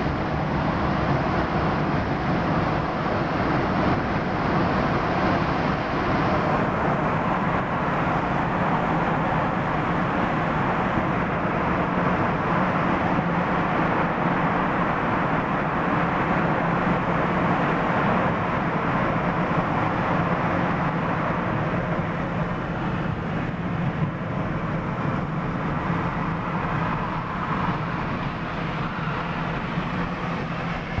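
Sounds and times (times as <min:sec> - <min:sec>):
car road noise in tunnel: 0:00.0 - 0:31.0.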